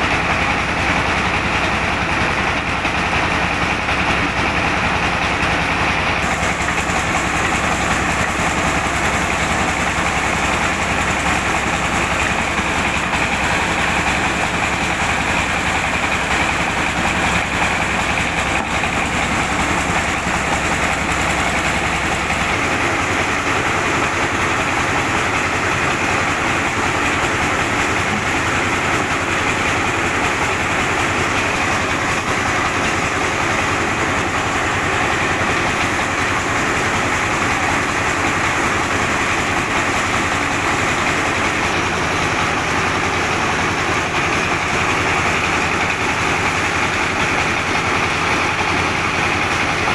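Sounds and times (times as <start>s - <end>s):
rice mill machinery running: 0.0s - 49.9s.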